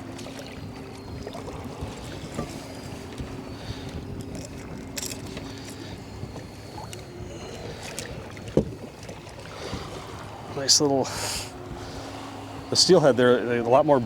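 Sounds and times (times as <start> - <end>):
boat motor hum: 0.0 - 14.0
water noise: 0.0 - 14.0
wind: 0.0 - 14.0.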